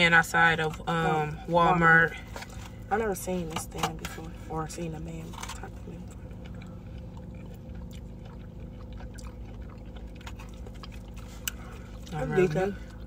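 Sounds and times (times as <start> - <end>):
low hum: 0.0 - 13.0
soft chewing: 0.4 - 13.0.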